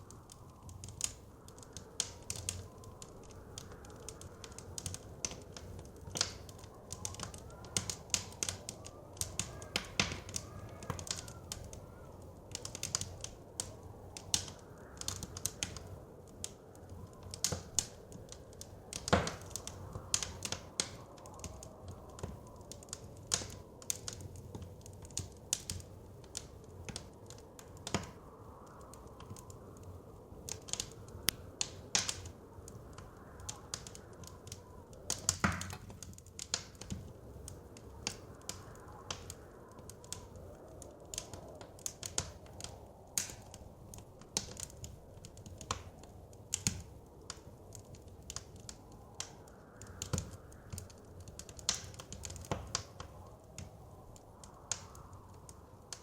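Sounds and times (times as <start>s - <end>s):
soft wind: 0.0s - 56.0s
wood fire crackling: 0.0s - 56.0s.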